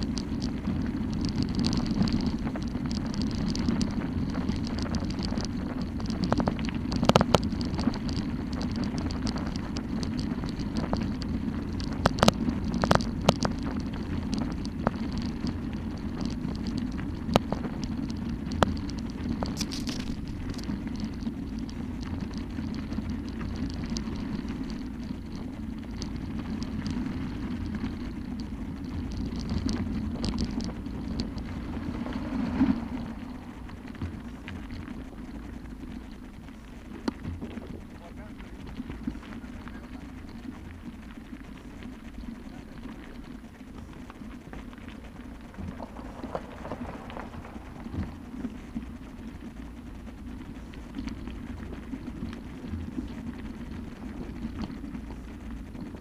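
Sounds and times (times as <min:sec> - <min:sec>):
bicycle rattles and clicks: 0:00.0 - 0:56.0
bicycle tyres rumbling on gravel: 0:00.0 - 0:56.0
wind on microphone: 0:00.0 - 0:56.0.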